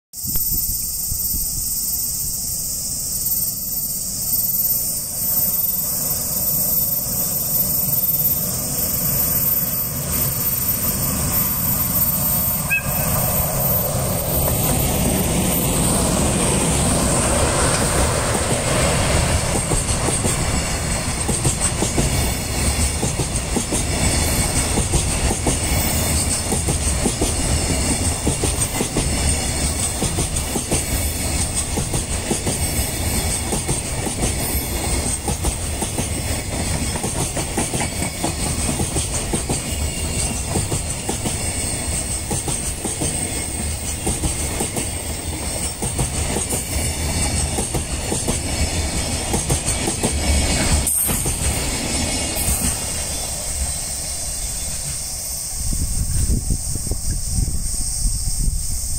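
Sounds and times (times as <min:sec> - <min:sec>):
train wheels running on rails: 0:00.2 - 0:58.9.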